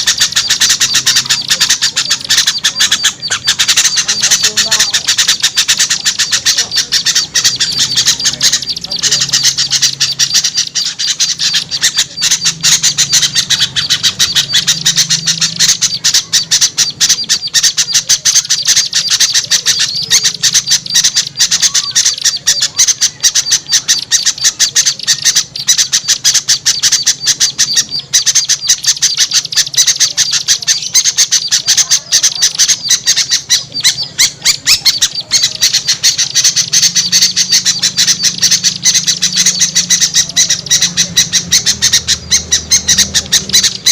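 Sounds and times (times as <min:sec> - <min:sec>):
small birds chattering: 0:00.0 - 0:43.9.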